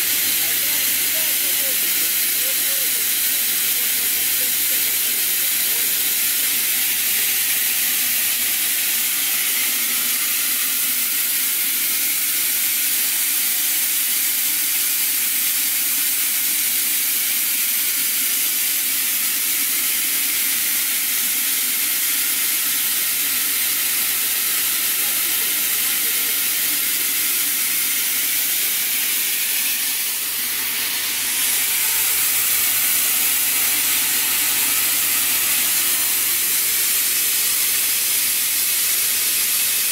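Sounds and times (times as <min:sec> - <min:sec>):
spinning machine loud hiss: 0:00.0 - 0:39.9.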